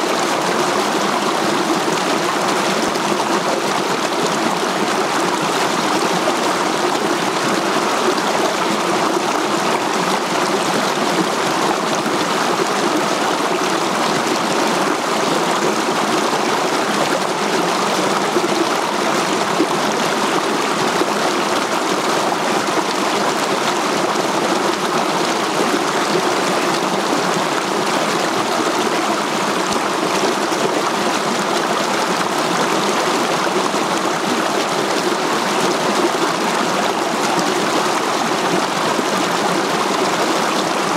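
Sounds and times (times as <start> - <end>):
mountain stream rushing over boulders: 0.0 - 40.9.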